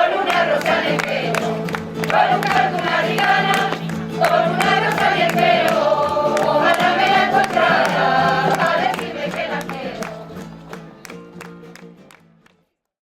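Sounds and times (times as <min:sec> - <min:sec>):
choir singing: 0:00.0 - 0:10.6.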